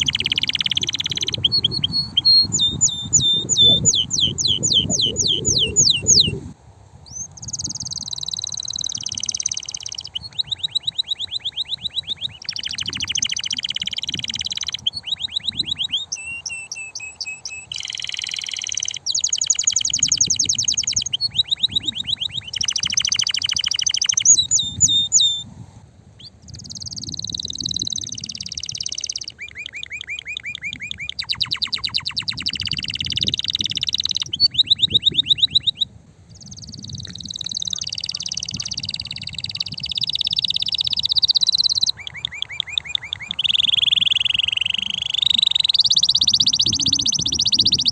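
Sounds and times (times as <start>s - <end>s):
canary singing rapid trills: 0.0s - 25.5s, 26.2s - 47.9s.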